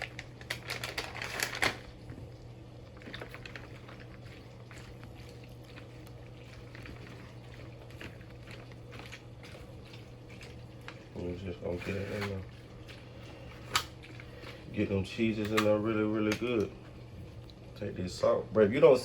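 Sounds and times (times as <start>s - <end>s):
food being mixed in a bowl: 0.0s - 19.0s
steady low hum: 0.0s - 19.0s.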